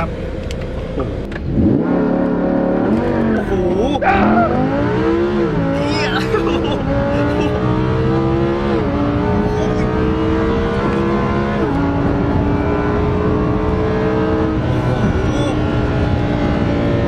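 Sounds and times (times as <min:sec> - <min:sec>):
car engine at full throttle: 0:00.0 - 0:17.0
gear upshifts: 0:00.0 - 0:17.0.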